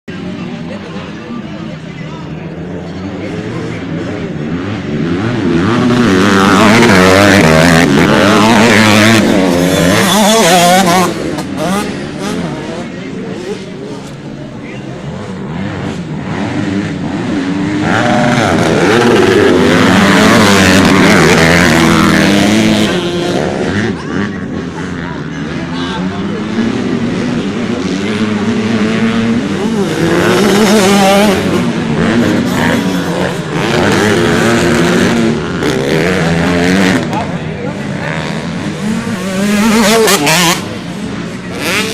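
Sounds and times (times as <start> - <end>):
motorcycle engines revving: 0.1 - 41.9.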